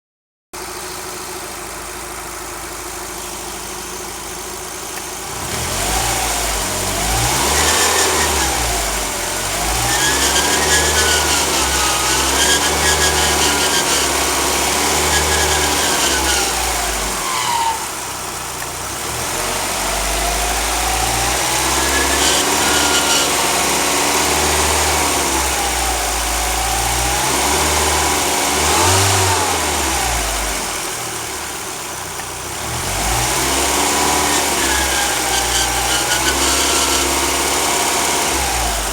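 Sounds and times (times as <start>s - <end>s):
car engine idling and revving: 0.6s - 38.9s.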